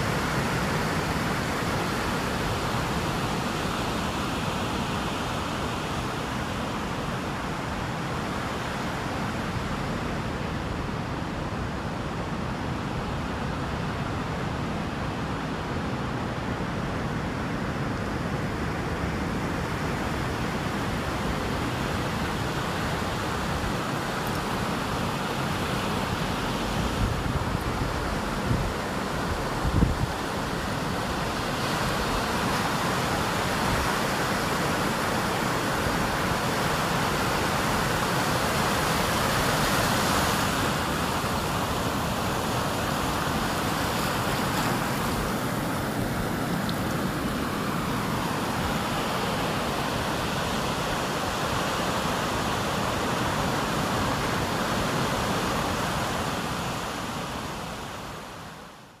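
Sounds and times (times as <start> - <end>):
ocean surf on beach: 0.0 - 59.0.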